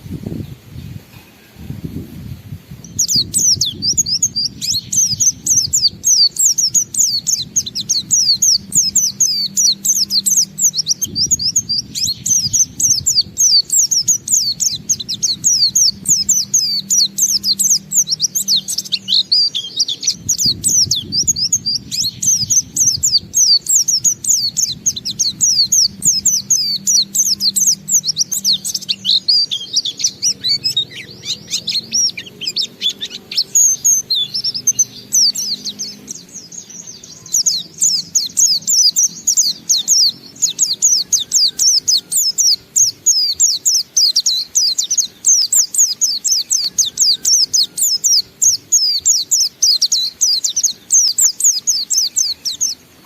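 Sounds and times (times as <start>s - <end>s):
bird twittering song: 0.0s - 53.0s.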